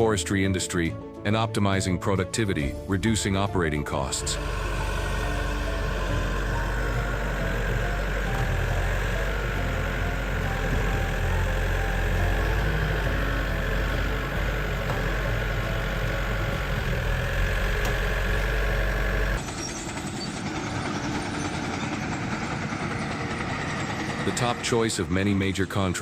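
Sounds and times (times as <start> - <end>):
heavy machine engine humming: 2.6 - 25.9
quieter engine running: 2.6 - 26.0.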